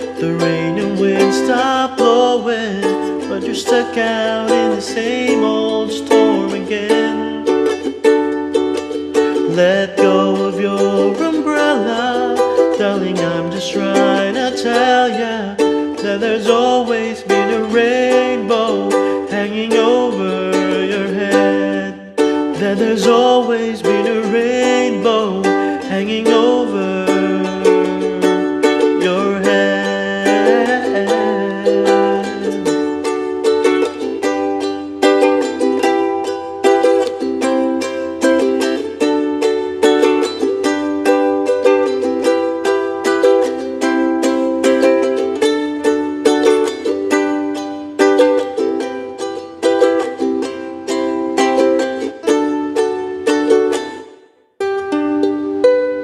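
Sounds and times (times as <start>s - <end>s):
person singing: 0.0s - 56.0s
ukulele strumming chords: 0.0s - 56.0s.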